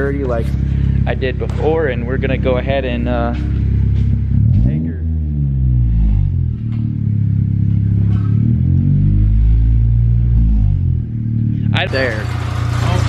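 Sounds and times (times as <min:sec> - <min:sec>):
car engine revving through exhaust: 0:00.0 - 0:13.0.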